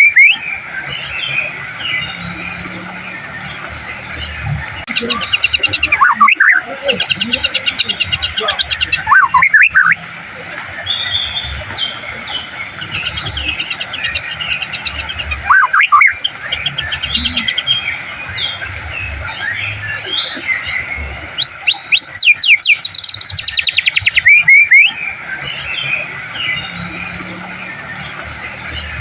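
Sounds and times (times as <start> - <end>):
small birds twittering: 0.0 - 29.0
songbird whistling song: 0.0 - 29.0.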